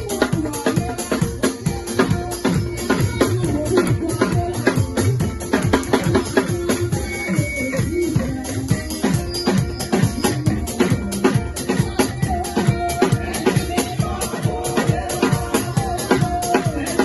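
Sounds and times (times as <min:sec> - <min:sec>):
lively music with drum beat: 0:00.0 - 0:17.0
shaken percussion: 0:00.0 - 0:17.0.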